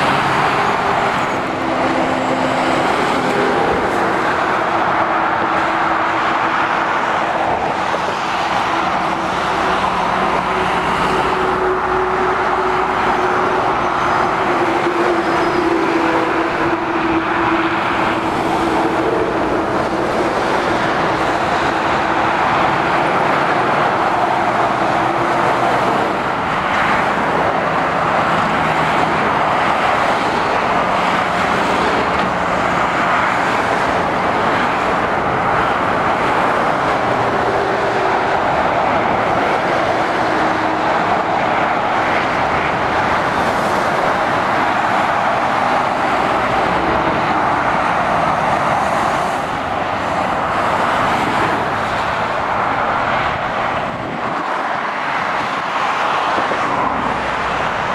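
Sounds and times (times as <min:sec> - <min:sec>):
low hum of lorry engines: 0:00.0 - 0:57.9
traffic tyre and engine noise: 0:00.0 - 0:57.9.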